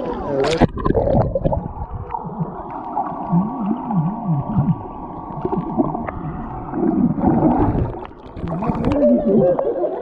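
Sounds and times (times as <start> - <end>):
water gurgling underwater: 0.0 - 10.0.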